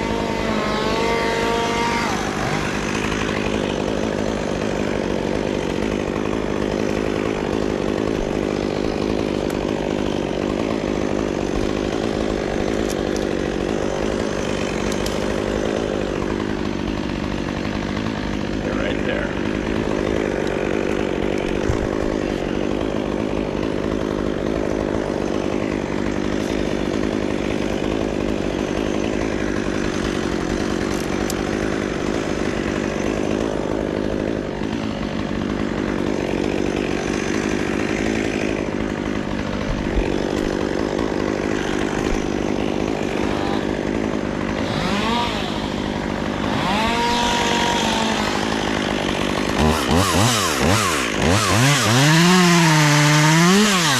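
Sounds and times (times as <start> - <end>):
chainsaw engine revving: 0.0 - 53.9.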